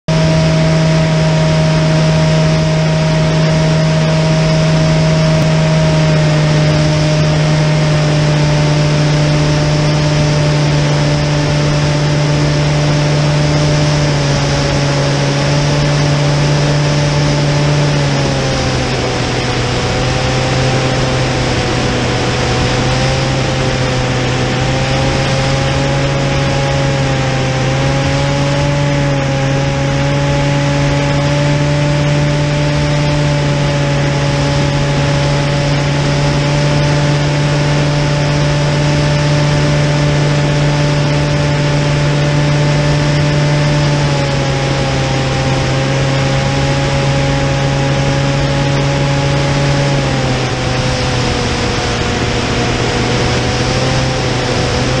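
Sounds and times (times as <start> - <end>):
model plane motor droning: 0.1 - 55.0
rush of wind: 0.1 - 55.0.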